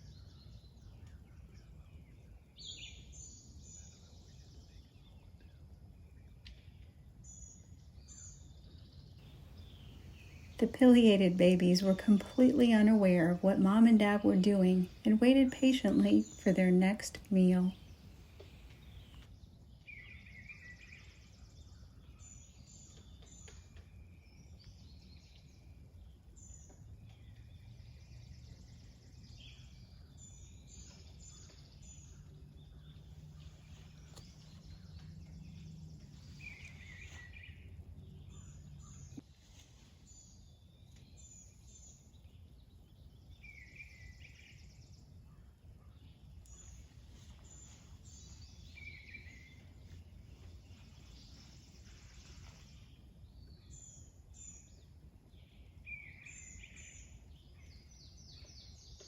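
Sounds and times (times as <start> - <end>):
birds chirping: 0.0 - 59.0
low steady hum: 0.0 - 59.0.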